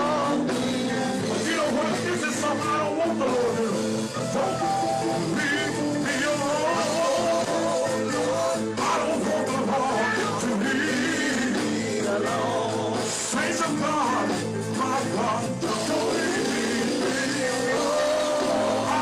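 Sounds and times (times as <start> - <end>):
band accompaniment: 0.0 - 19.0
gospel singing: 0.0 - 19.0.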